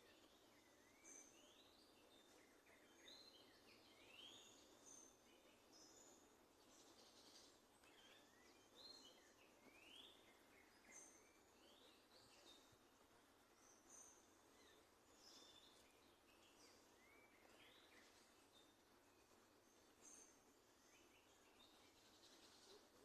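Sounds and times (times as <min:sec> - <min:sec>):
faint birdsong: 0:00.0 - 0:23.0
low steady hiss: 0:00.0 - 0:23.0.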